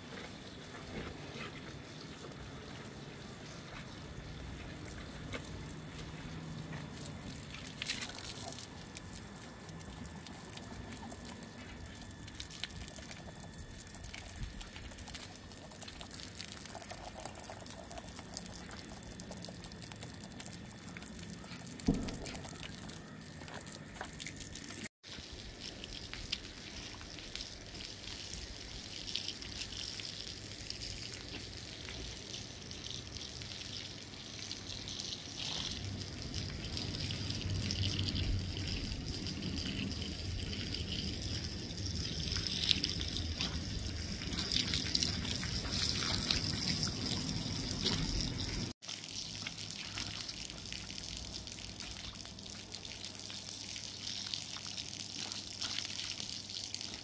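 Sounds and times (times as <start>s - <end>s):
hose water splashing on blanket: 0.0s - 57.0s
running water: 0.0s - 57.0s.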